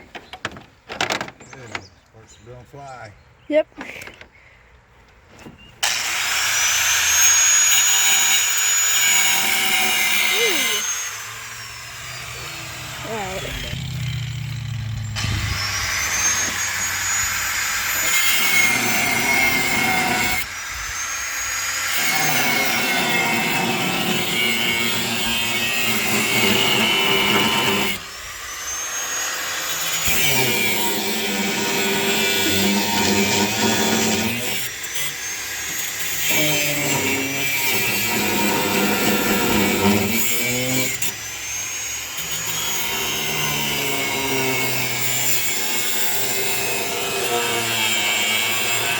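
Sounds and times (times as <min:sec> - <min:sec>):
power tool cutting bolts: 0:05.8 - 0:48.9.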